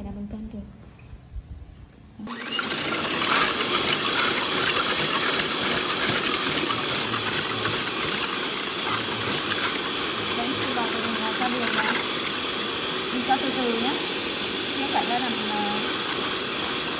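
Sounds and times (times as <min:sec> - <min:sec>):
electric hand mixer running: 0:02.2 - 0:16.9.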